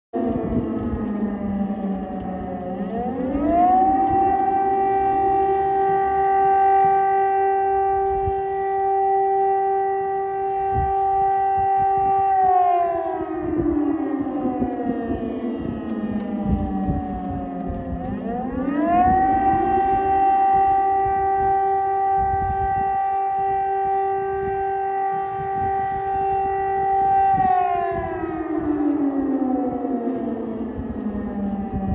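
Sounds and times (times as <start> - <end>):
air-raid siren wailing: 0.1 - 31.9.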